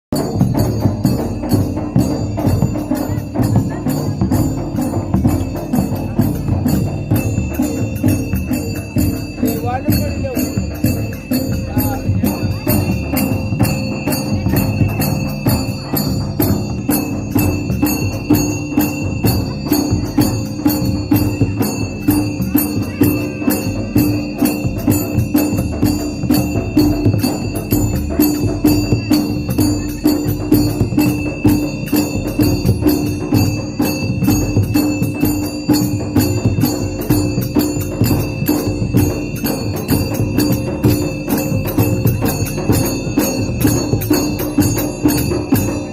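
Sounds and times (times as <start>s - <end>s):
dhol drum beating steadily: 0.0s - 45.9s
jingling bells: 0.1s - 45.9s
tribal folk music: 0.1s - 45.9s.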